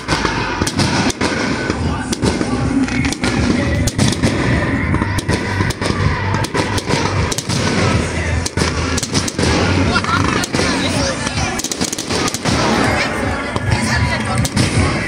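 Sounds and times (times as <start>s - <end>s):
continuous rumble: 0.0s - 15.0s
firework shells bursting: 0.0s - 15.0s.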